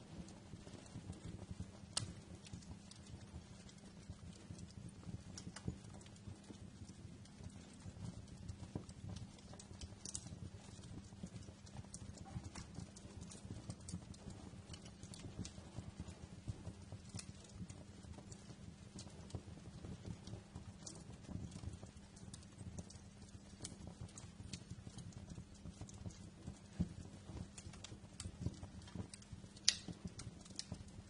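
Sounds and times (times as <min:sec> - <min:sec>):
low rumble of burning: 0:00.0 - 0:31.0
wood fire crackling and popping: 0:00.0 - 0:31.0.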